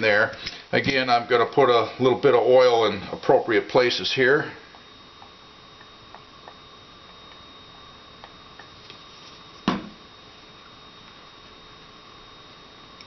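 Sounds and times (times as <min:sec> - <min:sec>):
faint electrical whine: 0:00.0 - 0:13.0.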